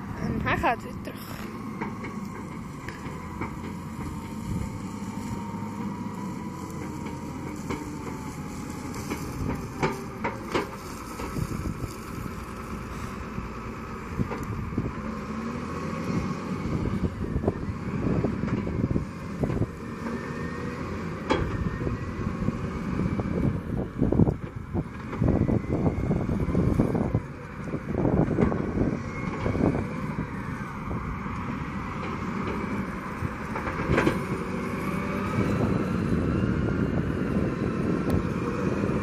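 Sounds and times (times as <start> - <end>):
loader diesel engine running: 0.0 - 39.0.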